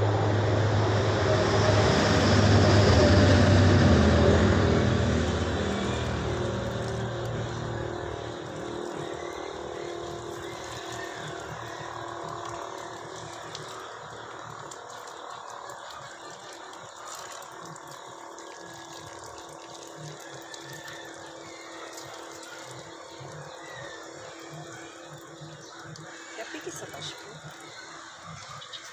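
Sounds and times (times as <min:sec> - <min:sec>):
water pouring onto soil: 0:04.2 - 0:28.9.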